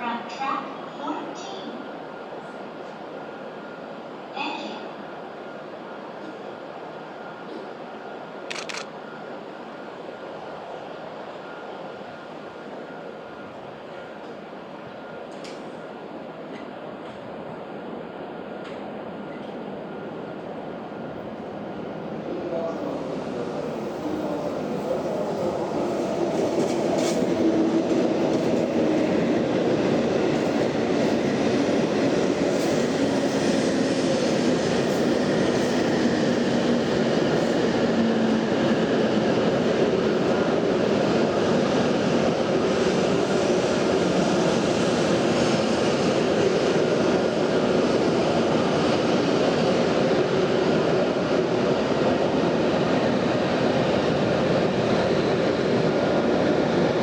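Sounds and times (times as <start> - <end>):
train rail and motor noise: 0.0 - 57.0.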